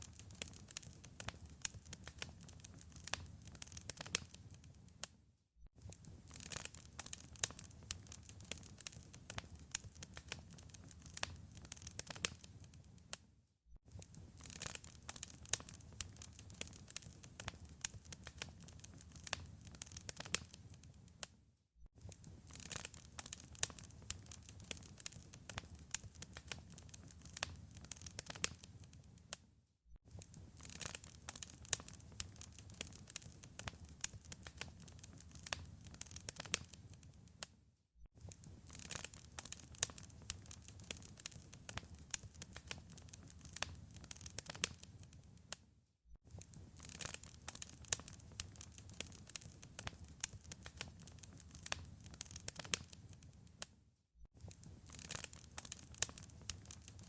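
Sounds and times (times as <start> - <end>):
wood fire crackling and popping: 0.0 - 5.1, 5.8 - 13.2, 13.9 - 21.3, 22.0 - 29.4, 30.1 - 37.5, 38.2 - 45.6, 46.3 - 53.7, 54.4 - 57.0.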